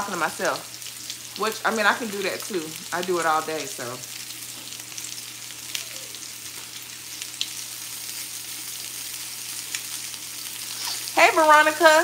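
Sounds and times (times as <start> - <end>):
chicken sizzling in frying pan: 0.0 - 12.0
oil spattering crackles: 0.0 - 12.0.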